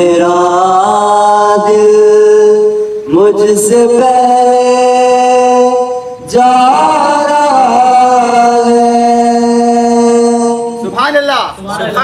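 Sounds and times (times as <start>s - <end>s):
man singing devotional song: 0.0s - 11.0s.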